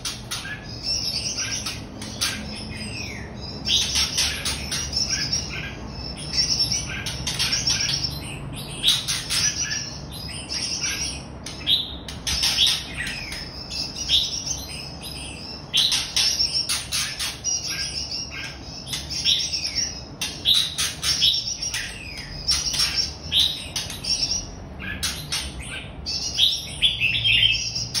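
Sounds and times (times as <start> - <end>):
bird singing: 0.0 - 28.0.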